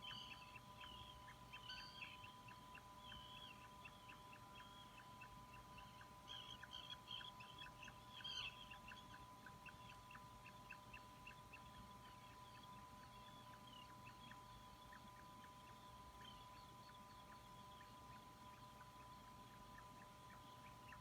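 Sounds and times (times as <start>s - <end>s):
thin electronic whine: 0.0s - 21.0s.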